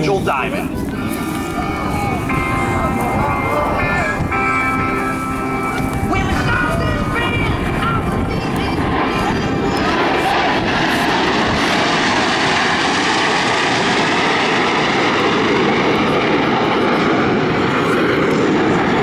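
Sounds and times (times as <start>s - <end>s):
jets flying past: 0.0s - 19.0s.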